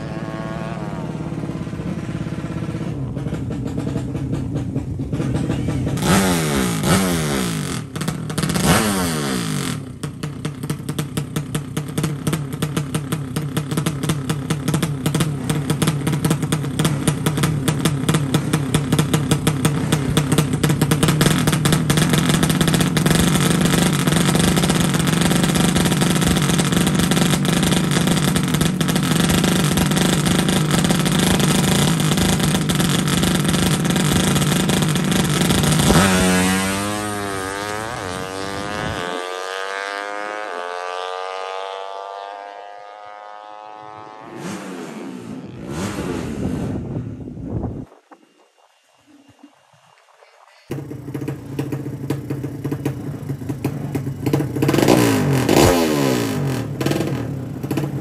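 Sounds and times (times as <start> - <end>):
motorcycle engine revving: 0.0 - 48.1, 50.7 - 58.0.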